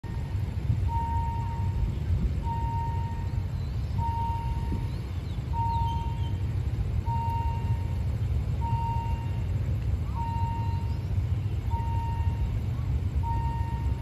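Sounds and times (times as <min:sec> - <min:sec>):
level crossing alarm beeping: 0:00.0 - 0:14.0
low rumble: 0:00.0 - 0:14.0.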